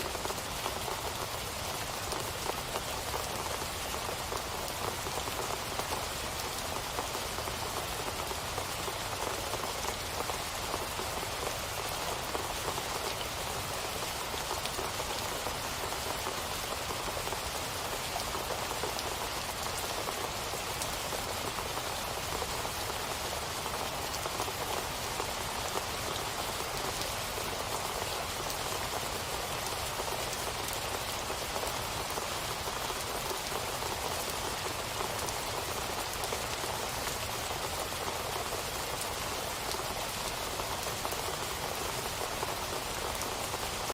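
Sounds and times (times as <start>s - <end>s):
steady rainfall: 0.0s - 43.9s.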